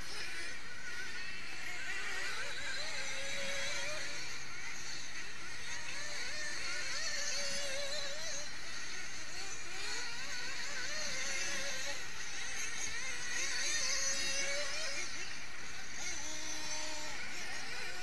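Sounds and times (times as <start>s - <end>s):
model car engines buzzing: 0.0s - 18.0s.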